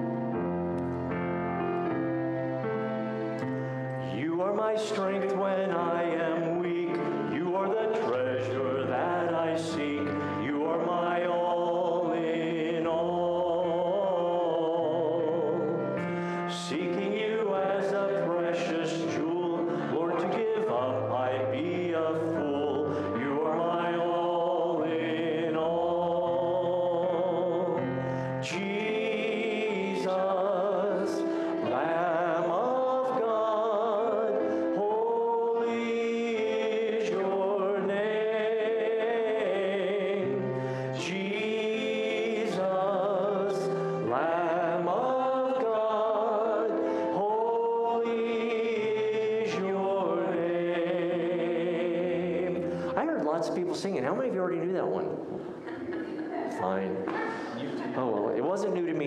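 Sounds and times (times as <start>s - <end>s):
sustained instrumental accompaniment: 0.0s - 56.5s
congregation singing worship song: 0.0s - 59.0s.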